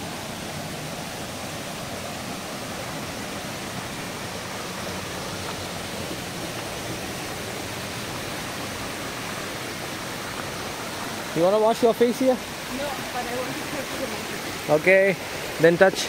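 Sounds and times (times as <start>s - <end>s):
stream flowing over rocks: 0.0s - 16.0s.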